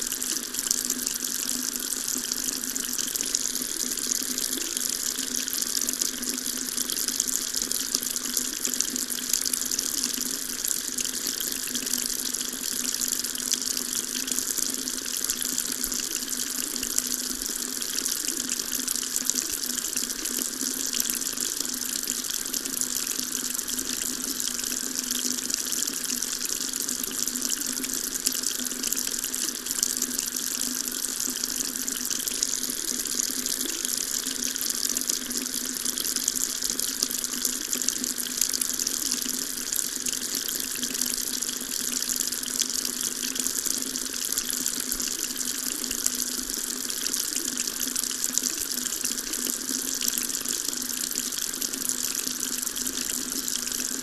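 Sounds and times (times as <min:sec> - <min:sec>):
water tap running: 0:00.0 - 0:54.0.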